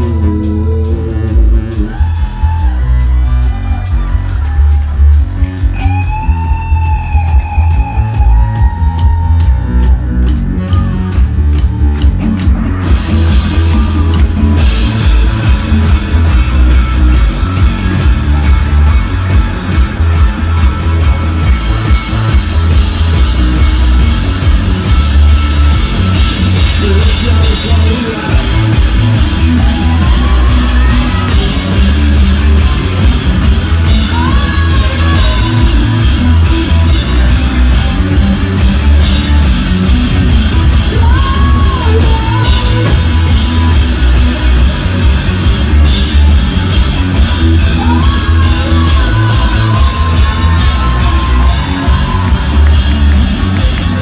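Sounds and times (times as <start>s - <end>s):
person singing: 0.0s - 54.0s
rock band playing: 0.0s - 54.0s.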